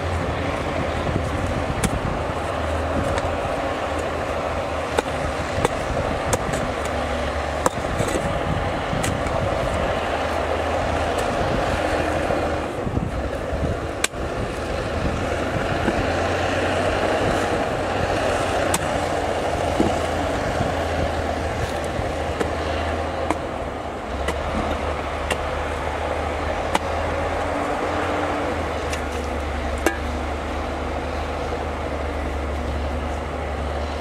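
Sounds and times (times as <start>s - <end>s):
bulldozer diesel engine running: 0.0s - 34.0s.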